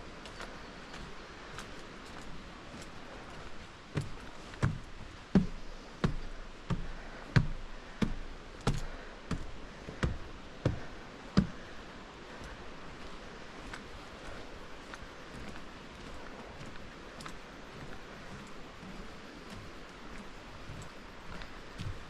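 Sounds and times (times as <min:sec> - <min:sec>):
footsteps with dull thud: 0:00.1 - 0:22.0.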